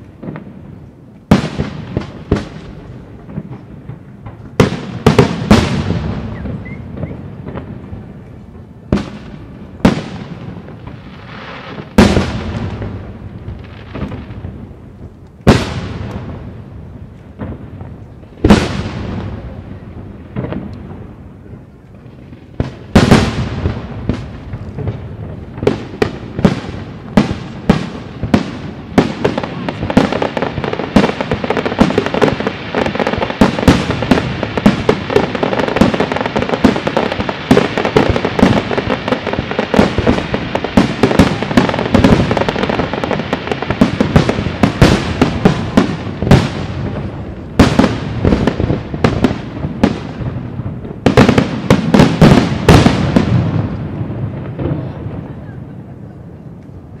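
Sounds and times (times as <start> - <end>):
firework crackling: 0.0 - 57.0.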